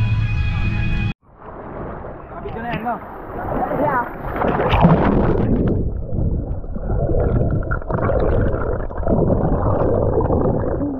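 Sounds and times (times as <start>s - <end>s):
muffled underwater churning water: 1.4s - 10.9s.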